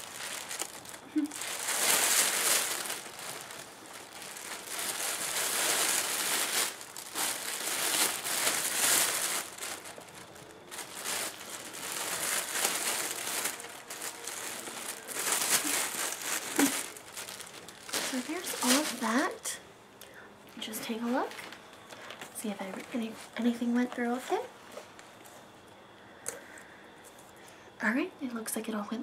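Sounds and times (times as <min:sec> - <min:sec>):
shopping bag crinkling: 0:00.0 - 0:19.6, 0:20.6 - 0:24.5.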